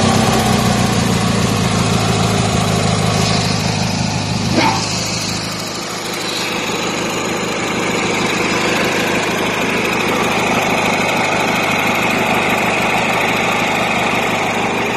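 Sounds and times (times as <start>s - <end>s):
garden tractor engine running: 0.0s - 14.9s.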